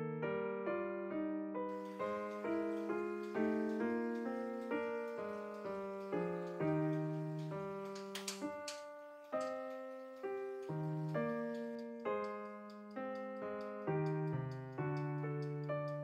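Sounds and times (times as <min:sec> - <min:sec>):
gentle piano music: 0:00.0 - 0:16.0
sharp clicks: 0:01.8 - 0:16.0.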